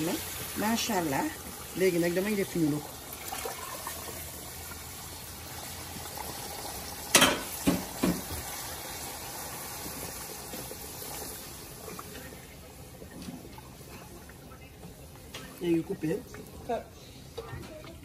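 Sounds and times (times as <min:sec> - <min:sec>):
water pouring into a pot: 0:00.0 - 0:15.2
sauce sizzling and bubbling: 0:00.0 - 0:18.0.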